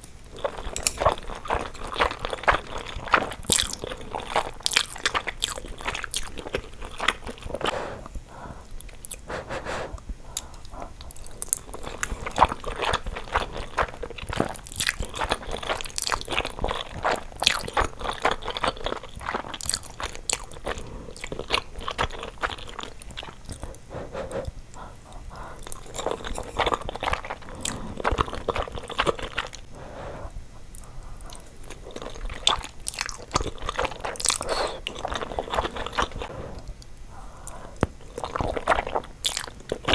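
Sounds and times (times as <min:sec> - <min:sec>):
crunchy eating and chewing: 0:00.0 - 0:39.9.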